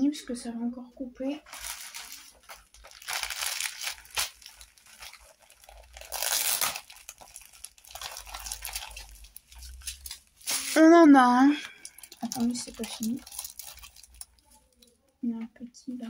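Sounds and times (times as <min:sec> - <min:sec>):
plastic bags crinkling: 0:01.4 - 0:15.0.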